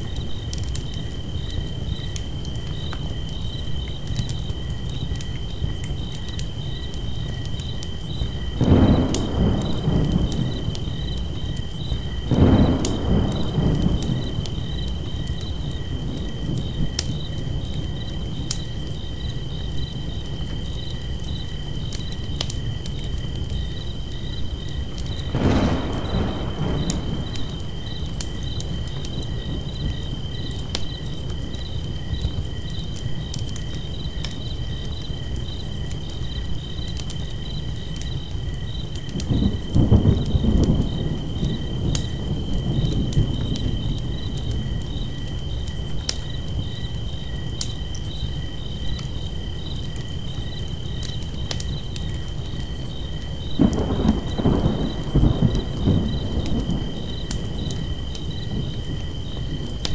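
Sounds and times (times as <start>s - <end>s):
campfire crackling and popping: 0.0s - 59.9s
insects chirping: 0.0s - 59.9s.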